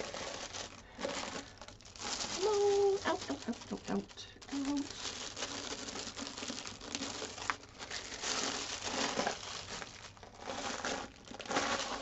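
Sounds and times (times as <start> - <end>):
cellophane wrapper crinkling: 0.0 - 12.0.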